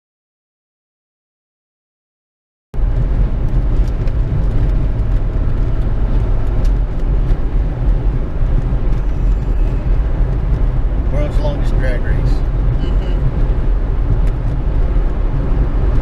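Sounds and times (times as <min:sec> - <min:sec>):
vehicle driving on road: 0:02.8 - 0:16.0.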